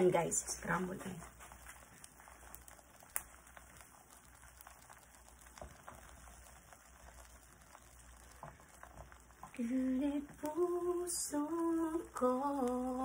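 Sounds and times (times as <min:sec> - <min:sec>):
egg sizzling in a frying pan: 0:00.0 - 0:13.0.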